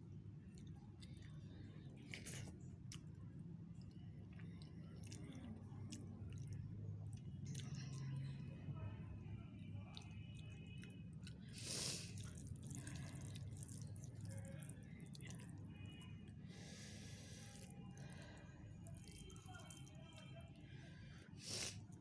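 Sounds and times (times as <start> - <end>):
wet squishing of food mixed by hand: 0.0 - 22.0.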